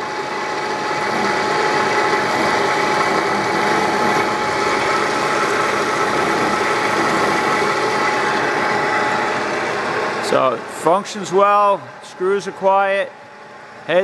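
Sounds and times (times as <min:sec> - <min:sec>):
mechanical running noise: 0:00.0 - 0:14.0
milling machine axis whine: 0:00.0 - 0:14.0.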